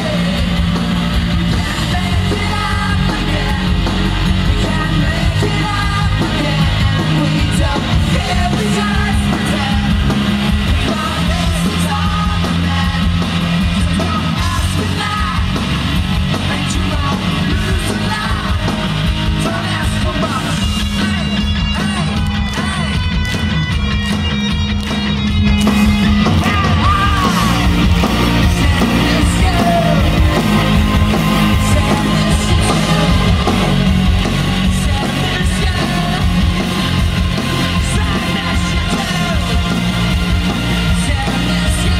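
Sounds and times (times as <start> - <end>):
man singing lead: 0.0 - 23.4, 25.6 - 41.9
live rock band playing: 0.0 - 41.9.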